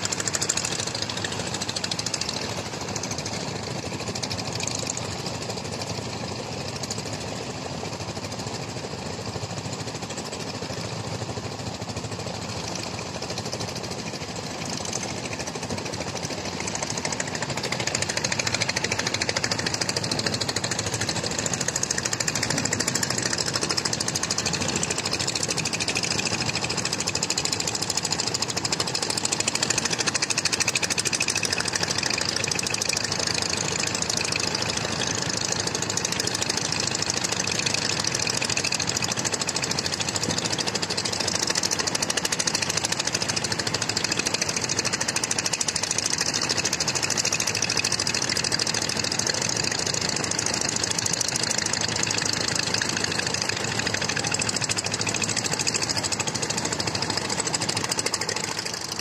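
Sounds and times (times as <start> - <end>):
engine running with knocking rattle: 0.0 - 59.0.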